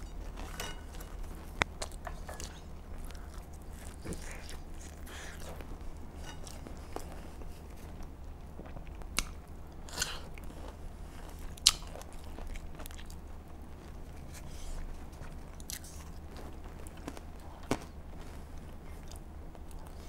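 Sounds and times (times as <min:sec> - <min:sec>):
chewing crunchy food: 0:00.0 - 0:20.0
low steady hum: 0:00.0 - 0:20.0.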